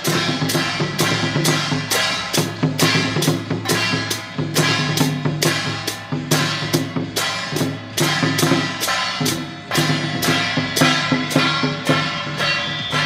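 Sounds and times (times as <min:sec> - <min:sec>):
barrel drum beating: 0:00.0 - 0:13.0
gongs struck: 0:00.0 - 0:13.0
hand cymbals clashing: 0:00.0 - 0:13.0.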